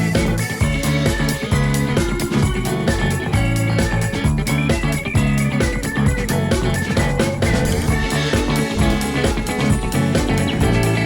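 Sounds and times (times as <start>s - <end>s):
band music with guitar and bass: 0.0s - 11.0s.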